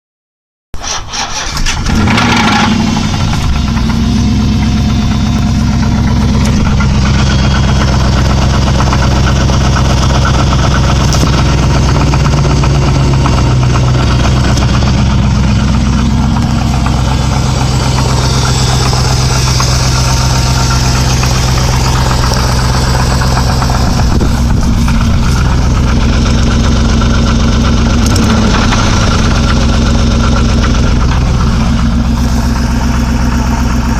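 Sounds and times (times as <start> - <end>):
car engine starting and idling: 0.8 - 33.9
engine knock: 1.2 - 33.9.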